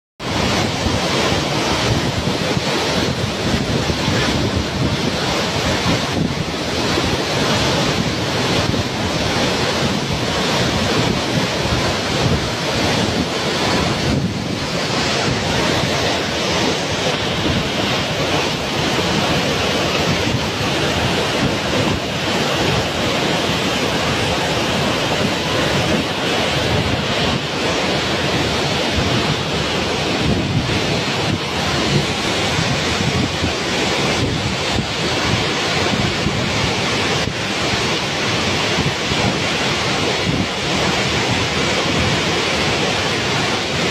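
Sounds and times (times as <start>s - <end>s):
waterfall rushing: 0.2s - 43.9s.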